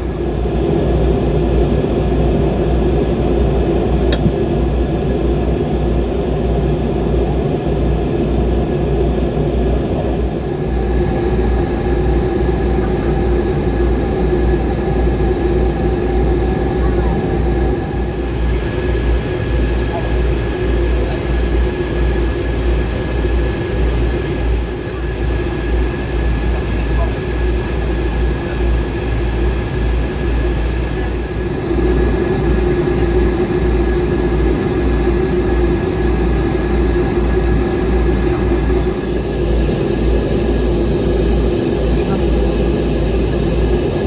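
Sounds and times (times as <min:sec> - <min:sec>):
airplane cabin rumble and hum: 0:00.0 - 0:44.0.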